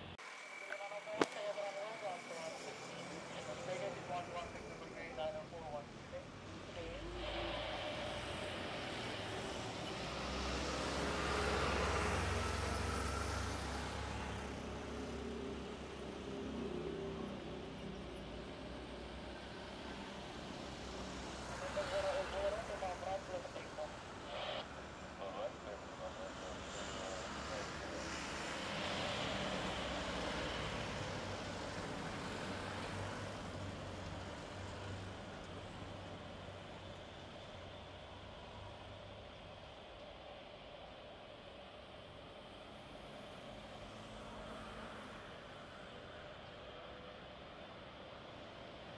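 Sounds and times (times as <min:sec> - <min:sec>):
faint engine whine: 0:00.0 - 0:48.9.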